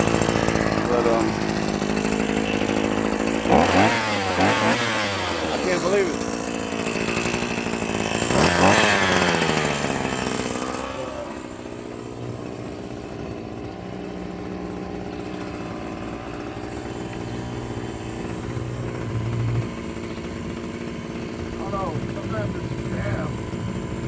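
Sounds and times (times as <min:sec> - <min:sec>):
string trimmer engine revving: 0:00.0 - 0:24.0.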